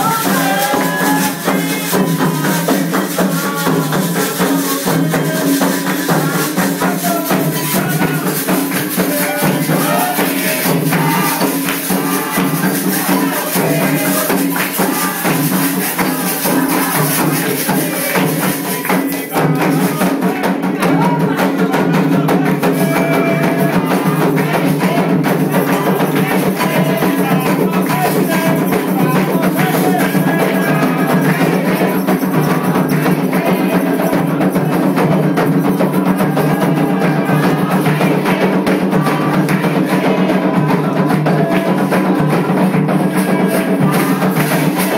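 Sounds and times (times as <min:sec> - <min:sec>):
fast drums and percussion: 0:00.0 - 0:44.9
voices singing: 0:00.0 - 0:44.9.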